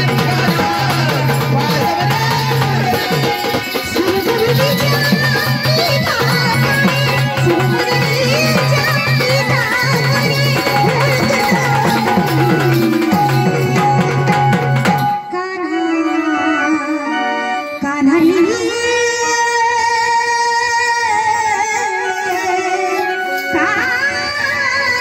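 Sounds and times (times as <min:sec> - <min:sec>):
woman singing: 0:00.0 - 0:25.0.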